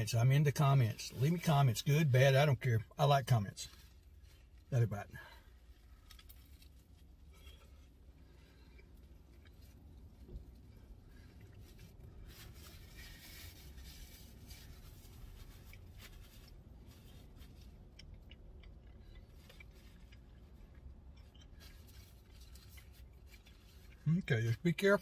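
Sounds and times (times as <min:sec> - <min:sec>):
low steady hum: 0:00.0 - 0:25.0
person chewing crispy crust: 0:03.6 - 0:25.0.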